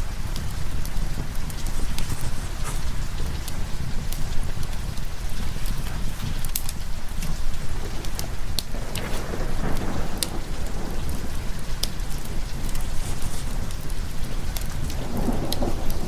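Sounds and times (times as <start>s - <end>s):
low rumbling thunder: 0.0s - 16.0s
sharp crackles: 0.0s - 16.0s
steady rain: 0.0s - 16.0s.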